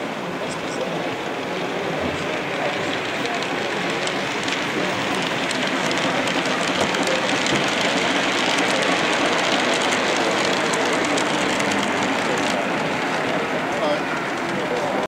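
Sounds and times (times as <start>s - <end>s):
model train wheels rattling: 1.8s - 15.0s.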